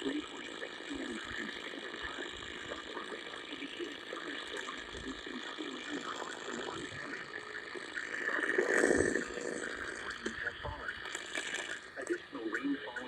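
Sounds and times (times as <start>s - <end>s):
indistinct broadcast audio: 0.0s - 13.0s
steady hiss: 0.0s - 13.0s.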